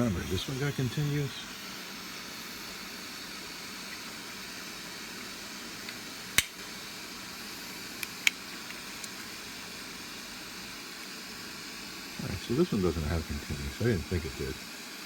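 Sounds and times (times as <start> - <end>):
soldering torch hissing: 0.0 - 15.0.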